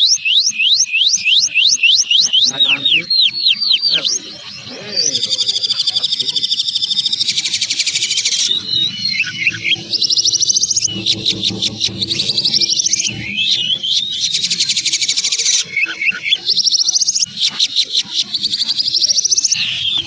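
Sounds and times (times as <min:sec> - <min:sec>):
songbird whistling and trilling: 0:00.0 - 0:20.0.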